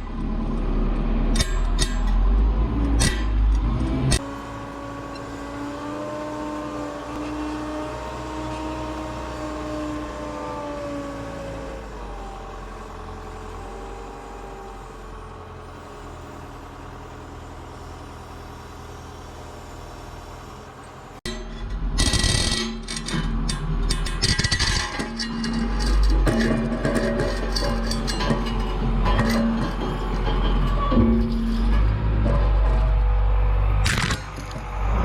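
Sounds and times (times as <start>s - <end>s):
heavy diesel engine running: 0.0s - 22.0s, 22.9s - 35.0s.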